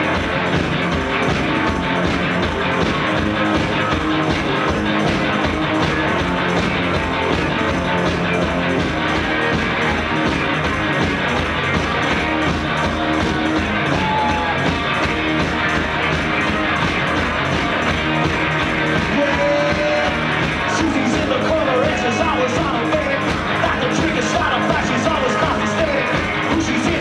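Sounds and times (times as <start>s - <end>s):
drums fast steady beat: 0.0s - 27.0s
electric guitars: 0.0s - 27.0s.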